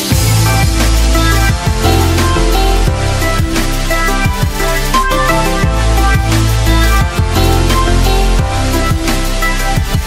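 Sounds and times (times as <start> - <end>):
electronic music with sliding bass: 0.0 - 10.0.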